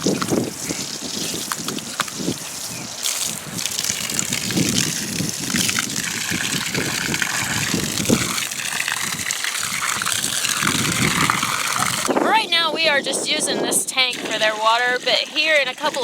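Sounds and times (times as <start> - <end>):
hose water gushing into tank: 0.0 - 16.0
wind buffeting microphone: 0.0 - 16.0.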